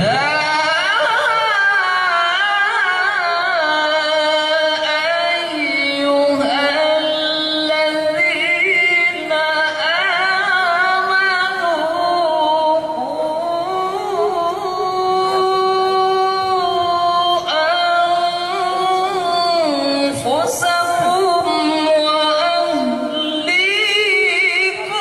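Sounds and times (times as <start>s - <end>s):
person reciting melodically: 0.0s - 25.0s.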